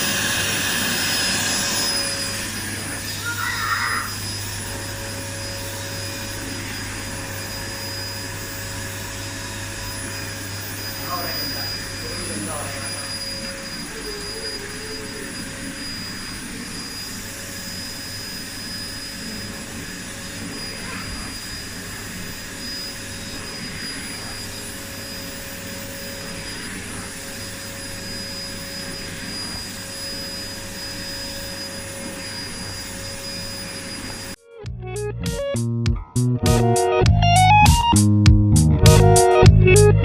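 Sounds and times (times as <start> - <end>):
vacuum cleaner running: 0.0 - 34.4.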